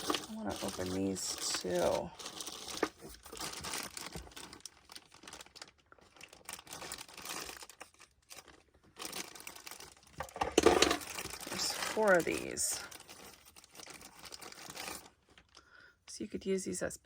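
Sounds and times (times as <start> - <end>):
packaging crinkling and tearing: 0.0 - 15.8.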